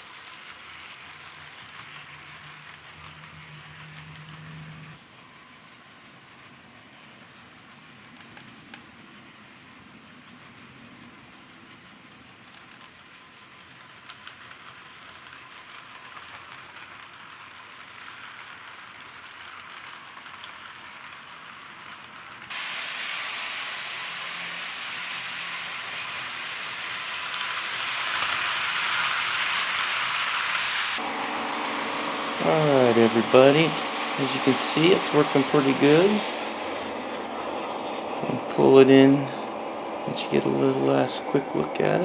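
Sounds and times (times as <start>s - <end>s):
model train whirring: 0.0s - 42.0s.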